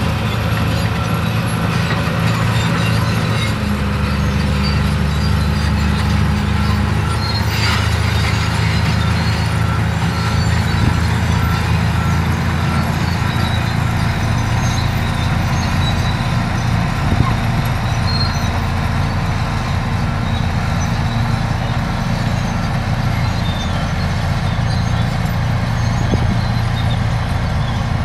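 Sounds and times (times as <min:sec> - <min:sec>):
bulldozer diesel engine drone: 0:00.0 - 0:28.0.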